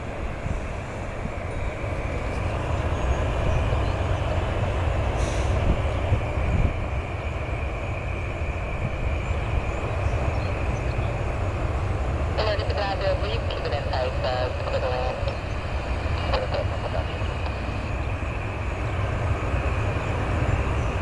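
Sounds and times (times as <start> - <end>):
jet airliner taking off: 0.0 - 21.0.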